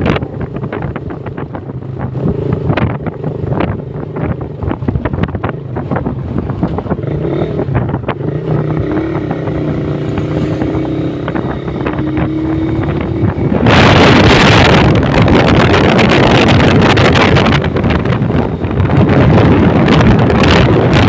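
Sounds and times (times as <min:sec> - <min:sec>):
motorcycle engine cruising: 0:00.0 - 0:21.0
wind buffeting microphone: 0:00.0 - 0:21.0.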